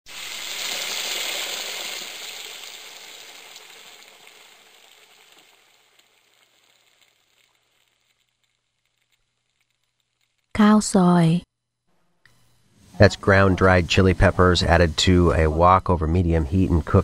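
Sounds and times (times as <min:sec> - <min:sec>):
food sizzling as it fries: 0:00.0 - 0:10.7, 0:12.3 - 0:17.0.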